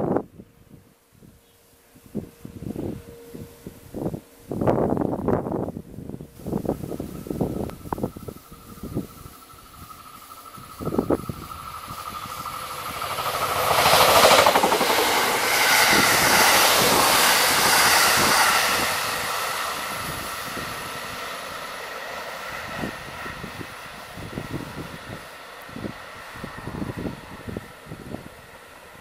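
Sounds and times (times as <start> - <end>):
electric train passing at speed: 0.0 - 29.0
wind buffeting microphone: 0.0 - 29.0.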